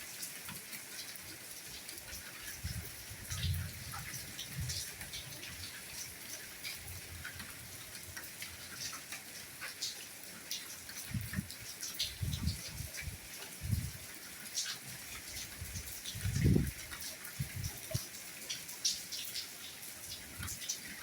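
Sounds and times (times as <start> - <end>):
raindrops ticking on a surface: 0.0 - 21.0.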